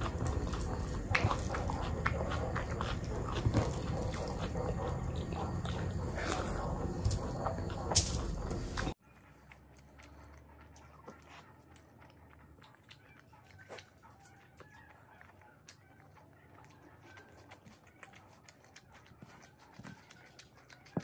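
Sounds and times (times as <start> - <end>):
mouth chewing food: 0.0 - 21.0.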